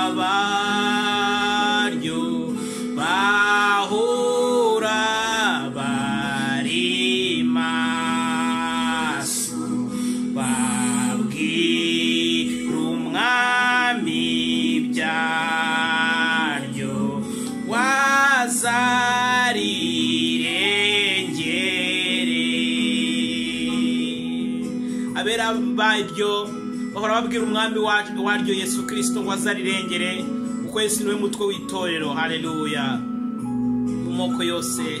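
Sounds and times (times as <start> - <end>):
man singing gospel song: 0.0 - 30.3.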